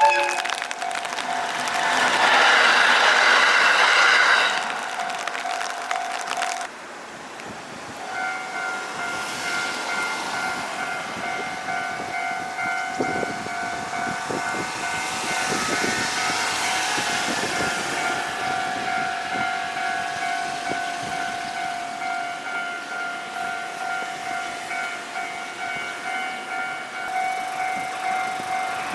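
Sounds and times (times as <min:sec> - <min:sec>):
level crossing warning alarm: 0:00.0 - 0:02.5, 0:08.0 - 0:28.9
two-tone crossing warning bell: 0:00.0 - 0:06.7, 0:08.0 - 0:28.9
approaching train noise: 0:00.0 - 0:28.9
train rushing past: 0:00.0 - 0:28.9.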